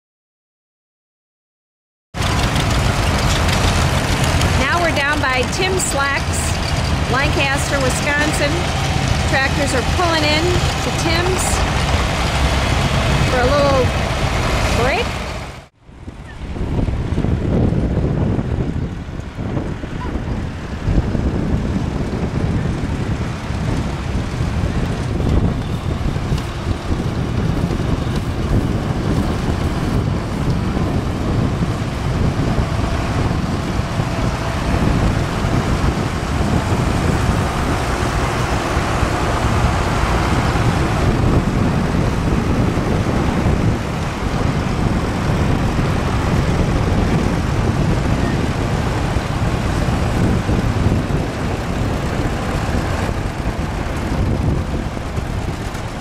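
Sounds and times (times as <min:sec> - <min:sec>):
tractor engines running: 0:02.2 - 0:56.0
wind buffeting microphone: 0:02.2 - 0:56.0.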